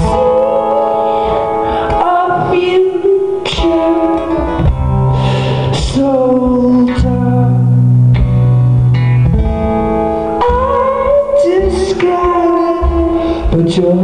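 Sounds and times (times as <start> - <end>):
held bass notes: 0.0 - 14.0
plucked guitar: 0.0 - 14.0.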